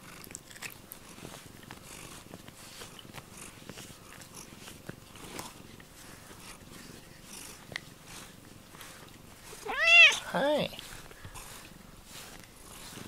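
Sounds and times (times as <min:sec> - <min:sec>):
cat purring: 0:00.0 - 0:13.0
brush scratching fur: 0:01.0 - 0:13.0.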